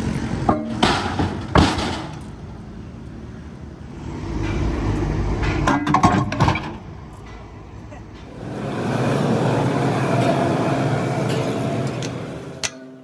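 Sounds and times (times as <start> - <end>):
heavy engine rumbling: 0.0 - 13.0.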